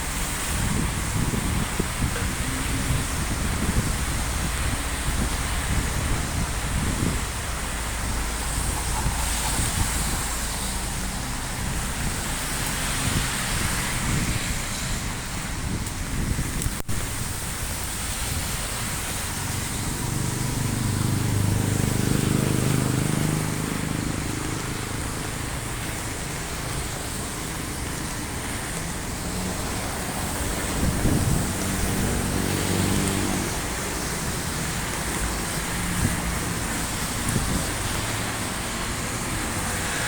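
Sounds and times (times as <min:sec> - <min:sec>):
heavy rain: 0:00.0 - 0:40.0
vehicles passing: 0:00.0 - 0:40.0.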